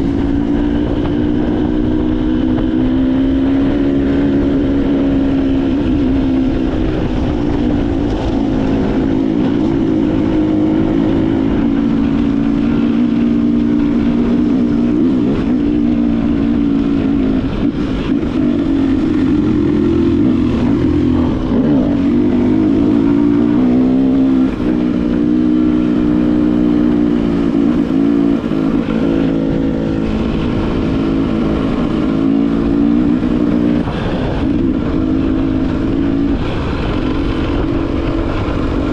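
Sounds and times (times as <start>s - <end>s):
low wind rumble: 0.0s - 38.9s
motorcycle engine cruising: 0.0s - 38.9s.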